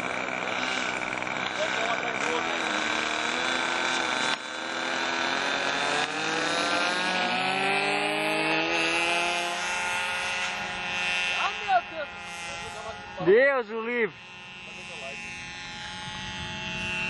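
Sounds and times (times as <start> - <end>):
model airplane engines revving: 0.0 - 17.0.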